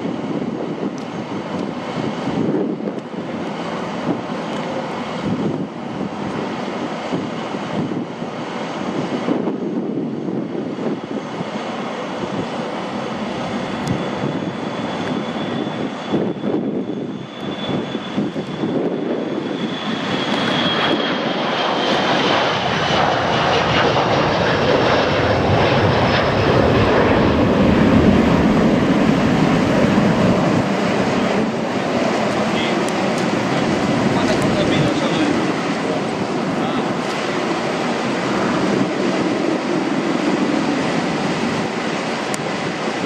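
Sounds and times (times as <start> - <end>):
jet engine rumble: 0.0 - 43.0.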